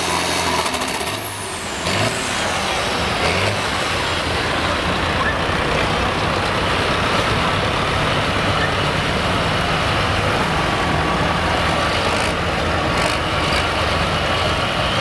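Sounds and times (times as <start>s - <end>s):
tractors driving past: 0.0s - 15.0s.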